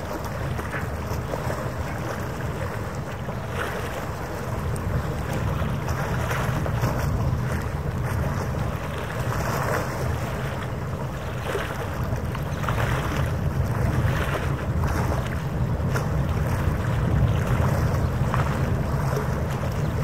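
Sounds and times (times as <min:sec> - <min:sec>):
water lapping: 0:00.0 - 0:20.0
wind on microphone: 0:00.0 - 0:20.0.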